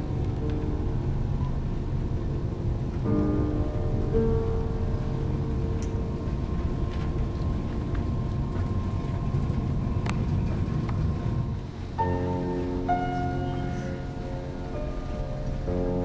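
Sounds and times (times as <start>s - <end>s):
faint hum: 0.0s - 16.0s
low rumble: 0.0s - 16.0s.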